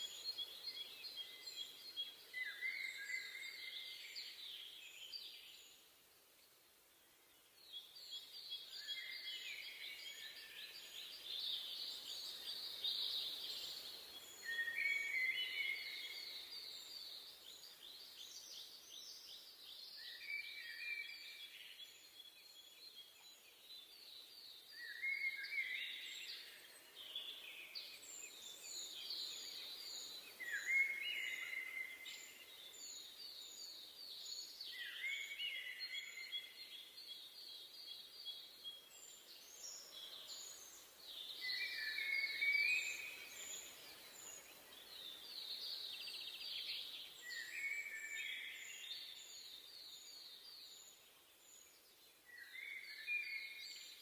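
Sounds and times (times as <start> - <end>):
faint steady hiss: 0.0 - 54.0
songbirds singing trills: 0.0 - 54.0.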